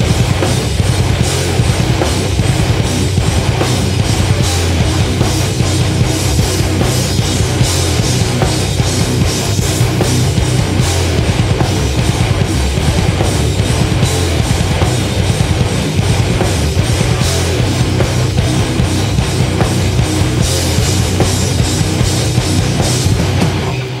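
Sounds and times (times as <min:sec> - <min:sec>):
heavy metal band playing live: 0:00.0 - 0:24.0.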